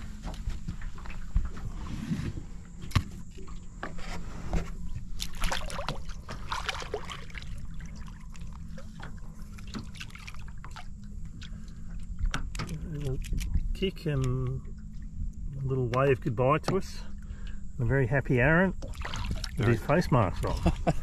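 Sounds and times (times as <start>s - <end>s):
steady low hum: 0.0s - 21.0s
water splashing against boat: 0.0s - 21.0s.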